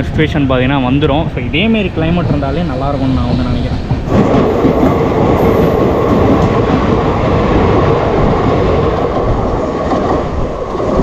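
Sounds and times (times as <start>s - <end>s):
train passing alongside: 0.0s - 11.0s
train wheels rumbling on rails: 0.0s - 11.0s.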